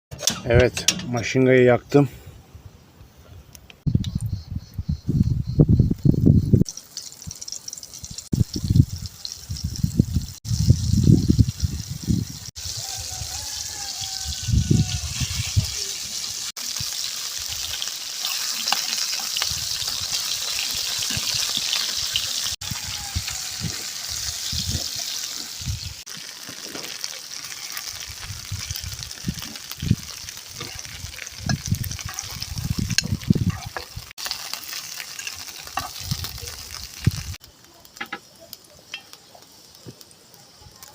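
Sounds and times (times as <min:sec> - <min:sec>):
fish frying in hot oil: 0:06.6 - 0:40.9.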